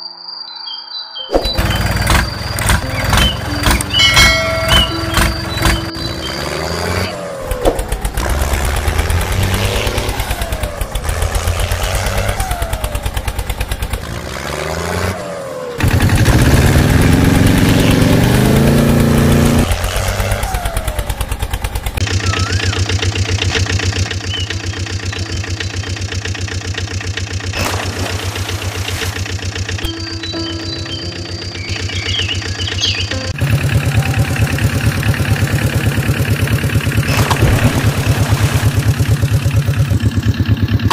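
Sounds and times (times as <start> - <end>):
vehicle engines idling and revving: 1.4 - 40.9.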